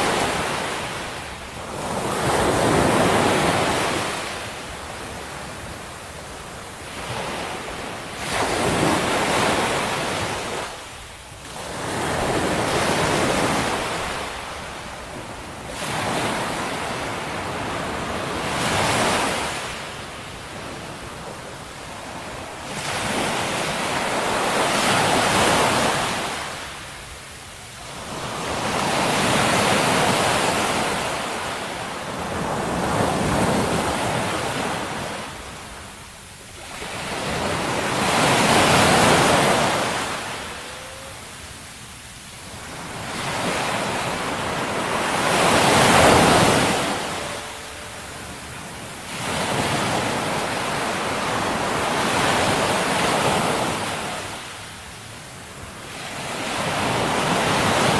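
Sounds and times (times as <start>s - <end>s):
sea waves washing in: 0.0s - 57.9s.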